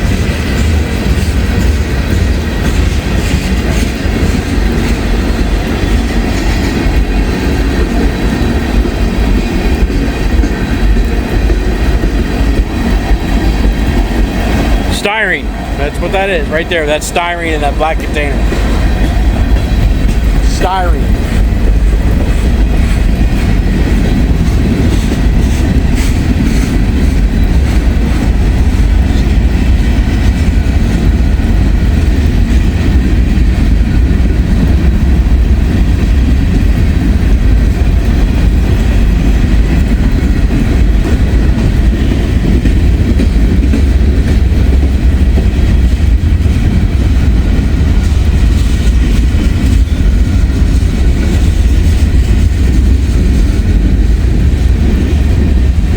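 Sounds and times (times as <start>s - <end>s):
freight train cars rolling past: 0.0s - 55.9s.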